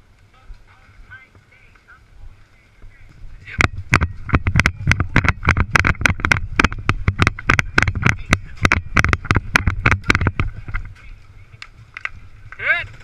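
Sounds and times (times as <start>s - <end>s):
running footsteps on mulch: 0.0s - 13.0s.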